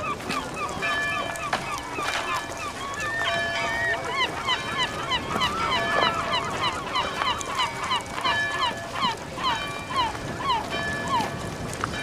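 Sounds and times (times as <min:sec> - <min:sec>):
flock of birds calling: 0:00.0 - 0:12.0.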